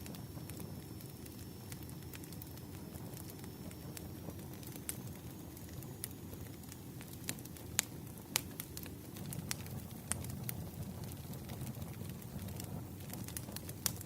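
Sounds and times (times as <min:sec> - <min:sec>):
low rumble of burning logs: 0:00.0 - 0:14.0
wood fire pops and snaps: 0:00.0 - 0:14.0.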